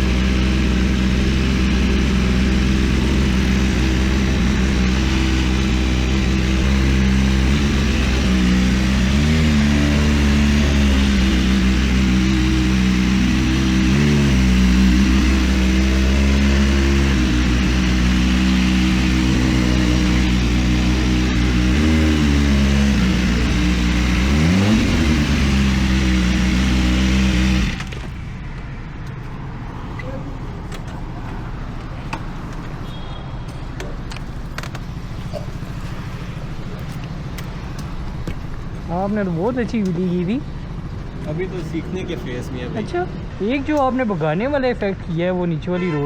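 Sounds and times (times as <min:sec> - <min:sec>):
motorcycle engine running: 0:00.0 - 0:29.3, 0:34.2 - 0:42.6
vehicle rumble: 0:00.0 - 0:45.6.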